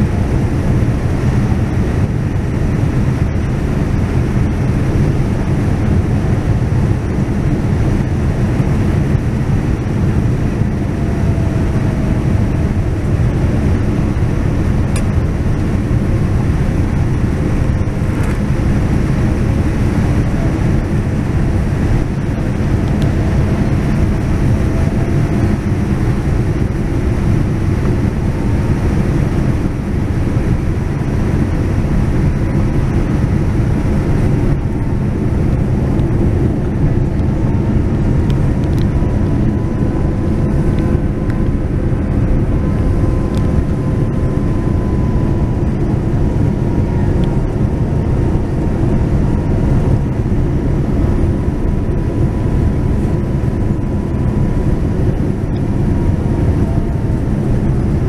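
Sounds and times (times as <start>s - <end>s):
aircraft engine and airflow roar: 0.0s - 58.0s
faint whine drifting in pitch: 0.0s - 58.0s.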